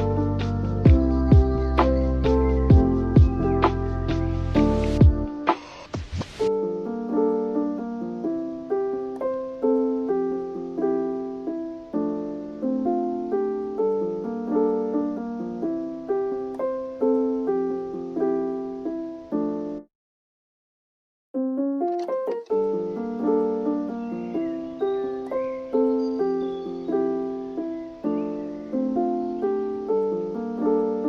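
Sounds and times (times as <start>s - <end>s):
piano melody: 0.0s - 5.6s, 6.4s - 19.9s, 21.4s - 31.0s.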